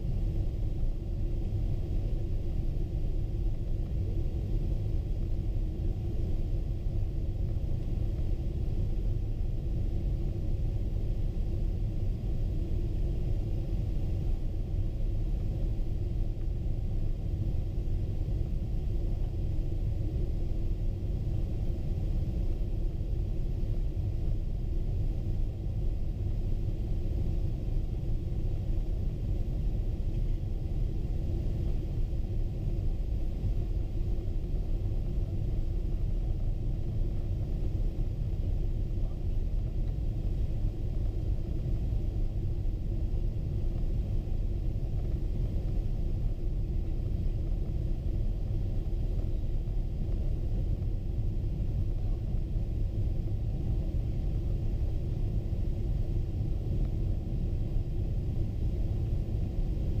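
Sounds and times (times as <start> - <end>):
airliner cabin engine rumble: 0.0 - 60.0.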